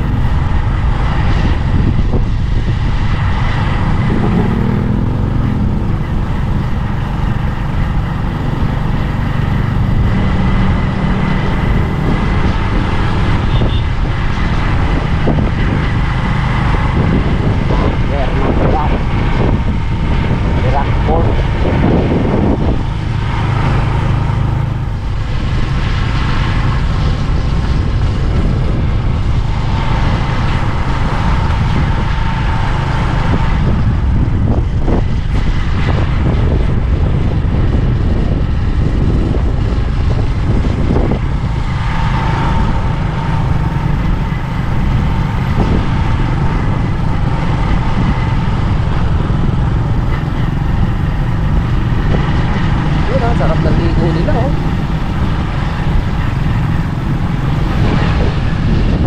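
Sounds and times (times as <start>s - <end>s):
moving vehicle rumbling: 0.0s - 59.0s.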